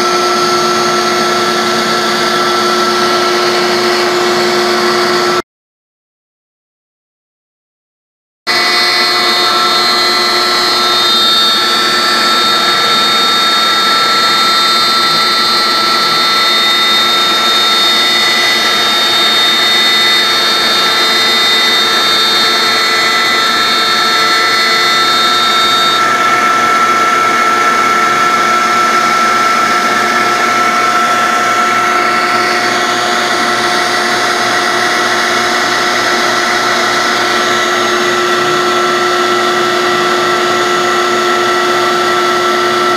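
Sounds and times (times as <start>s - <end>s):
cnc router whine: 0.0s - 5.4s, 8.5s - 42.9s.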